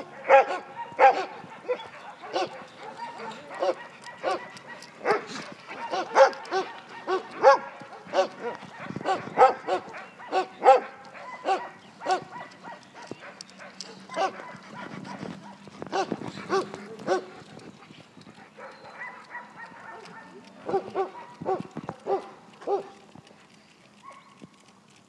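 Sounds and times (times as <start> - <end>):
dogs barking: 0.0 - 23.2, 23.9 - 24.6.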